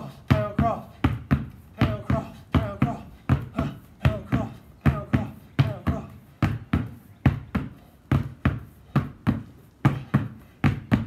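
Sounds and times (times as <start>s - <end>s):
basketballs bouncing on concrete: 0.0s - 11.0s.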